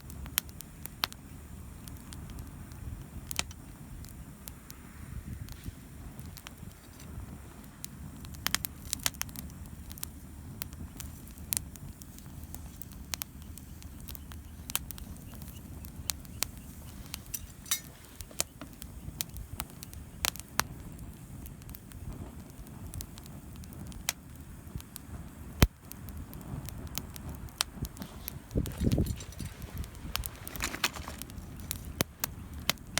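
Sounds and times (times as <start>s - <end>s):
campfire crackling and popping: 0.0s - 32.9s.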